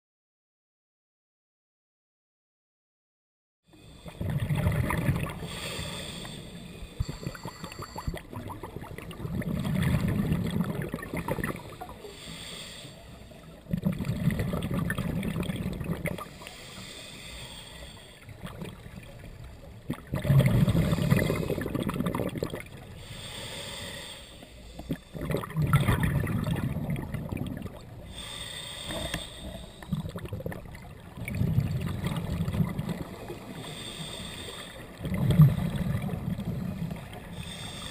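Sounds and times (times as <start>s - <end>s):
exhaled bubbles gurgling underwater: 3.8s - 37.9s.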